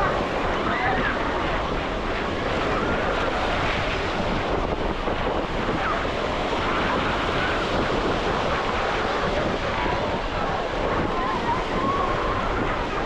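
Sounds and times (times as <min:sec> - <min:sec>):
surf rushing on beach: 0:00.0 - 0:13.0
wind buffeting microphone: 0:00.0 - 0:13.0.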